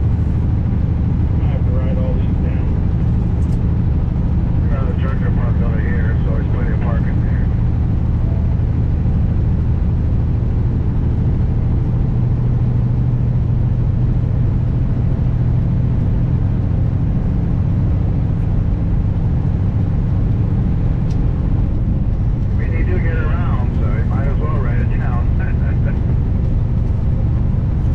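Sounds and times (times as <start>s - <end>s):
road noise: 0.0s - 27.9s
truck diesel engine running: 0.0s - 27.9s.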